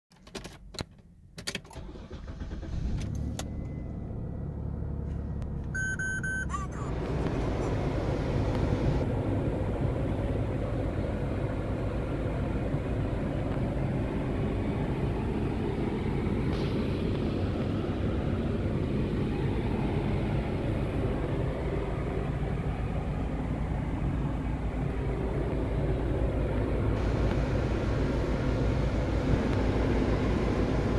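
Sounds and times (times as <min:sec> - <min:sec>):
car engine idling: 0:01.8 - 0:30.9.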